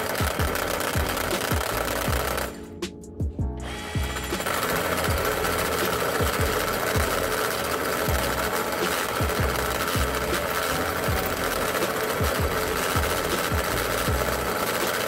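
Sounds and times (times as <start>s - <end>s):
rotary hammer cutting steel: 0.0s - 2.7s, 3.6s - 15.0s
background music with low beat: 0.0s - 15.0s.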